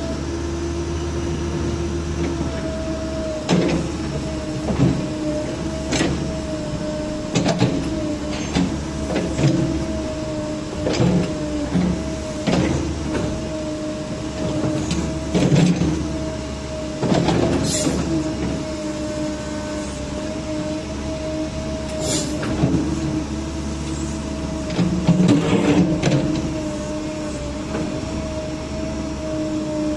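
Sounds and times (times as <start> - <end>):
excavator engine rumbling: 0.0 - 29.9.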